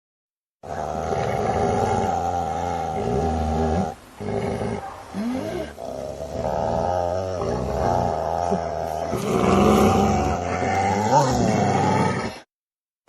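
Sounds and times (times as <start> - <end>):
dog growling: 0.6 - 12.5.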